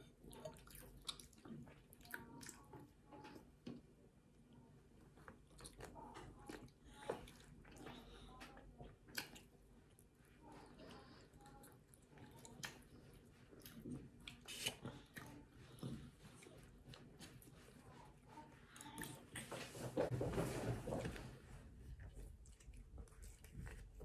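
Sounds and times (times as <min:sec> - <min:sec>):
chewing and wet mouth sounds: 0:00.0 - 0:20.1, 0:21.7 - 0:24.0.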